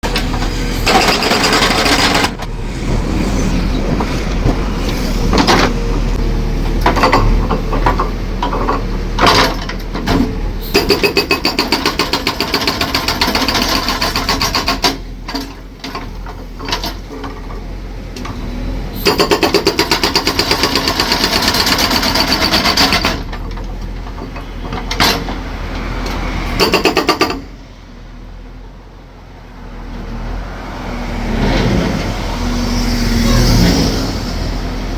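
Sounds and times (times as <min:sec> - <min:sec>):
heavy engine running: 0:00.0 - 0:30.8.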